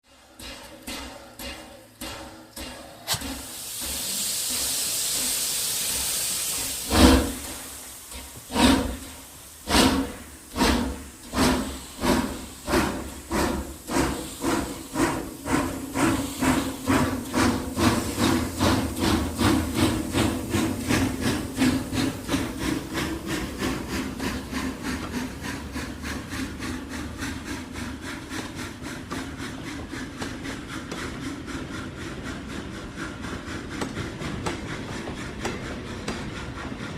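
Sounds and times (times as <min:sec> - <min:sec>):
steam locomotive chuffing: 0:00.0 - 0:36.9
steam hissing: 0:00.4 - 0:36.9.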